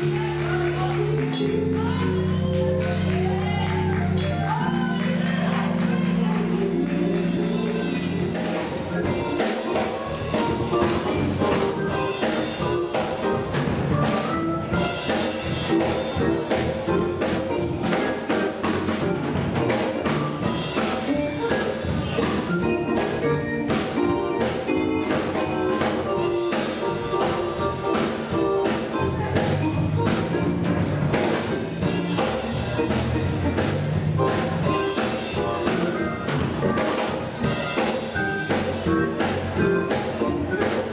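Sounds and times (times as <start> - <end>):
instrumental band with drums: 0.0 - 40.9.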